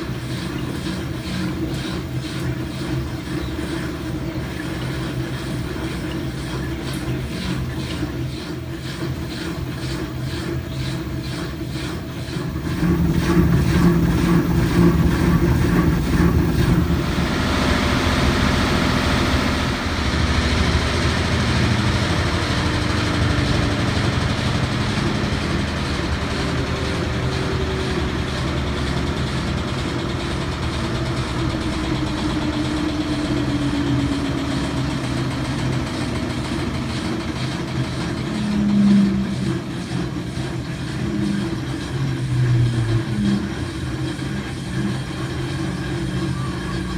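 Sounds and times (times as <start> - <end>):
washing machine drum spinning: 0.0 - 46.9.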